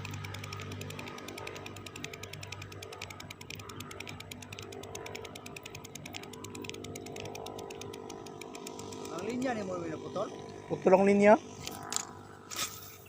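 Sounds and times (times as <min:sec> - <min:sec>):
fishing reel clicking: 0:00.0 - 0:10.6.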